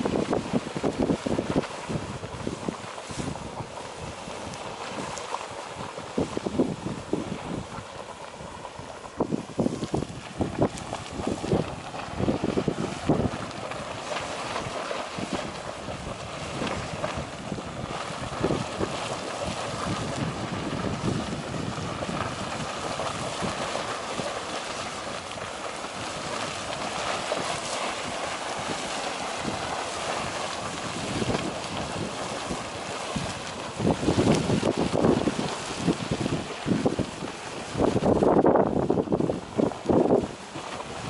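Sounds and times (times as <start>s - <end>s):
geyser water rushing and splashing: 0.0s - 41.0s
wind buffeting microphone: 0.0s - 41.0s.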